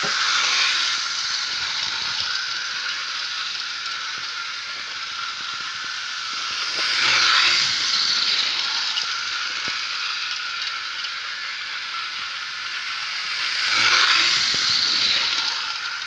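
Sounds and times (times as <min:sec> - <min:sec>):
model train rattling whirr: 0:00.0 - 0:16.0.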